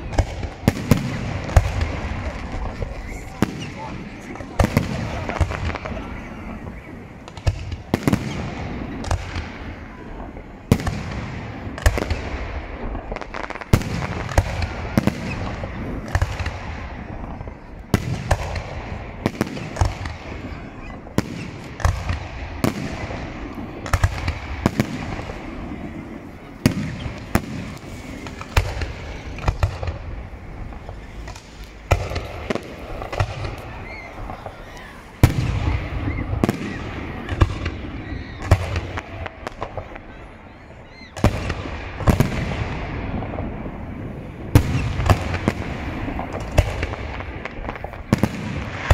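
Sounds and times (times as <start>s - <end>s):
continuous rumble: 0.0s - 48.9s
fireworks bursting: 0.0s - 48.9s.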